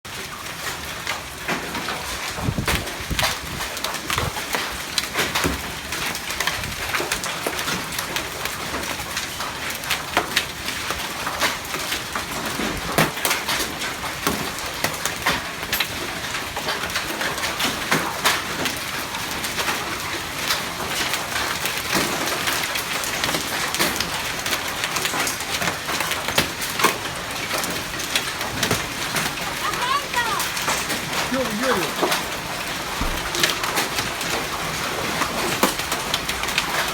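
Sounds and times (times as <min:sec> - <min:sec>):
hail striking hard surfaces: 0:00.8 - 0:36.9.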